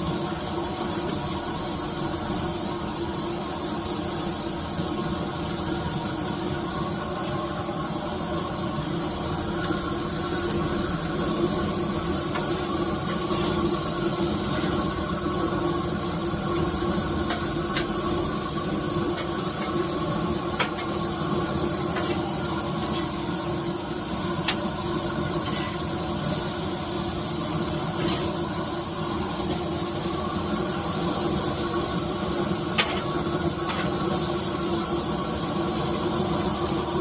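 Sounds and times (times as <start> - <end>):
food frying sizzle: 0.0 - 37.0.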